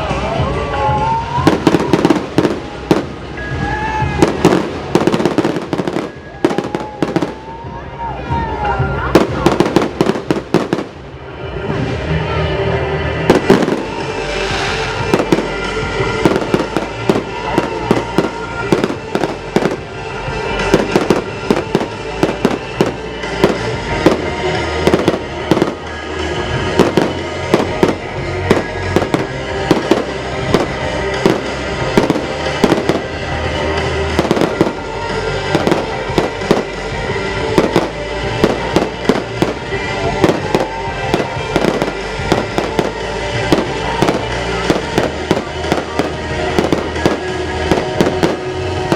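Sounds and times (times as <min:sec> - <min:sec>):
loud music playing: 0:00.0 - 0:48.9
fireworks bursting: 0:01.0 - 0:07.6, 0:08.5 - 0:11.2, 0:13.2 - 0:48.9.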